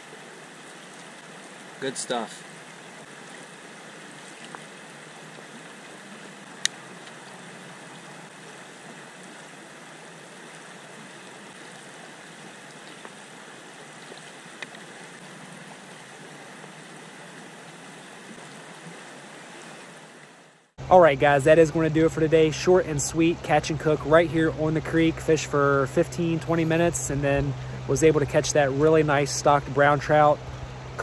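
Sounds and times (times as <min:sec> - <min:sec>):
creek water flowing: 0:00.0 - 0:31.0.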